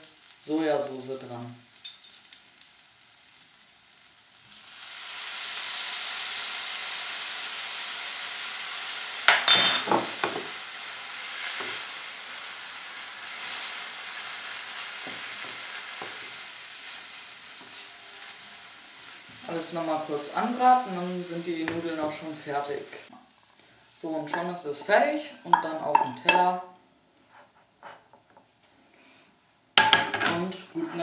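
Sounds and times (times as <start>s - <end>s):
noodles sizzling in a pan: 0.0s - 26.4s.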